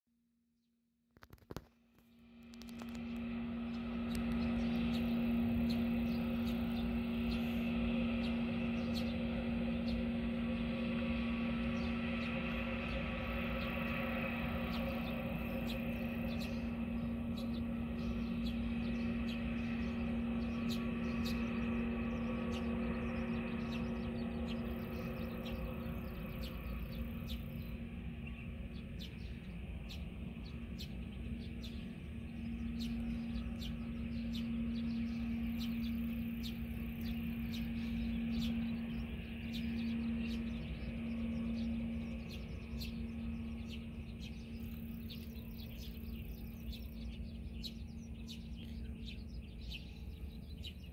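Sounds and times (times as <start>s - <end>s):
distant jet engine hum: 1.2s - 50.9s.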